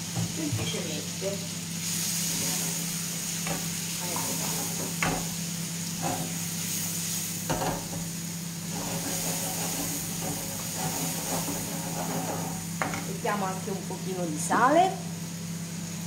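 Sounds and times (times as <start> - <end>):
pear sizzling in butter: 0.0 - 16.0.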